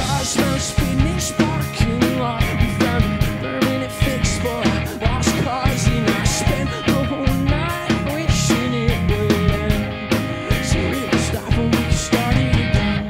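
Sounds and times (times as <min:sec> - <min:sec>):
drum kit with cymbals: 0:00.0 - 0:13.0
electric bass: 0:00.0 - 0:13.0
electric guitar: 0:00.0 - 0:13.0
man singing: 0:00.0 - 0:13.0.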